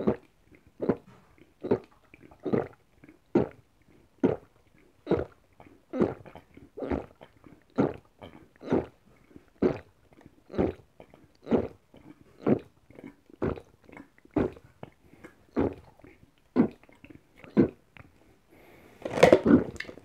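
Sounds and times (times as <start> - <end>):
person gulping a drink: 0.0 - 18.2, 19.0 - 20.0.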